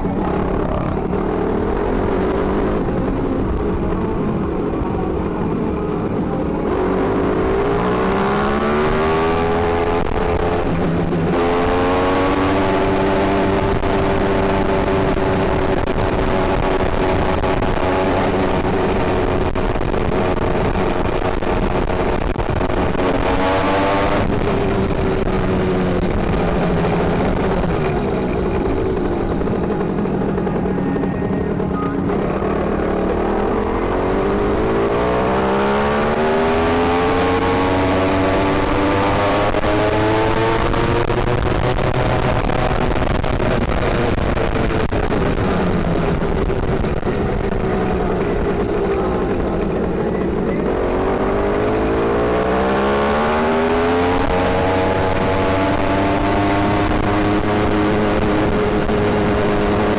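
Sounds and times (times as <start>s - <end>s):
small gas engine revving: 6.1s - 59.9s.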